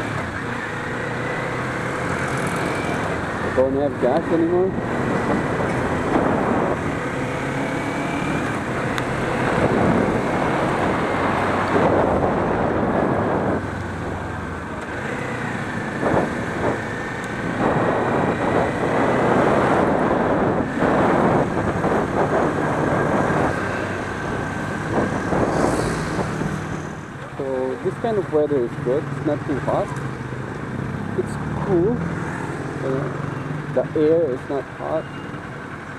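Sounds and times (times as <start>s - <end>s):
wind rushing over microphone: 0.0s - 34.8s
motorcycle engine: 0.0s - 35.9s
road traffic: 0.0s - 35.9s.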